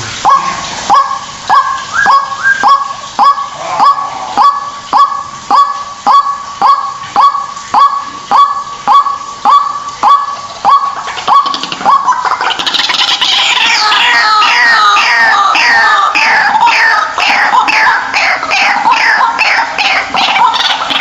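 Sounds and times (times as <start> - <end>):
waterhen harsh kwak calls: 0.0 - 21.0.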